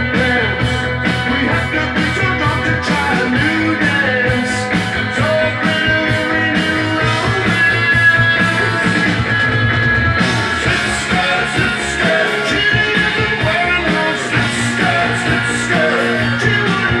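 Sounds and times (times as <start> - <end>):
rock record playing: 0.0 - 17.0.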